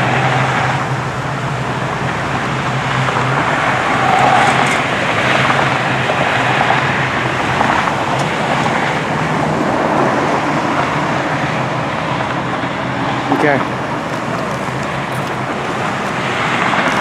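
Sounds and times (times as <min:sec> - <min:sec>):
highway traffic noise: 0:00.0 - 0:17.0.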